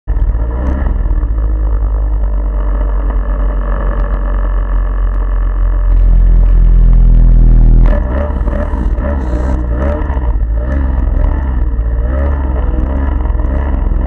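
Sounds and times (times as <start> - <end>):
snowmobile engine running: 0.1 - 14.0.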